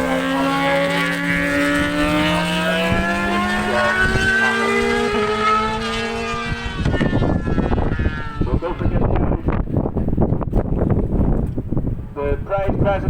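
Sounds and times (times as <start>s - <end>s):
racing motorcycle engines accelerating: 0.0s - 11.4s
wind buffeting microphone: 0.0s - 13.0s.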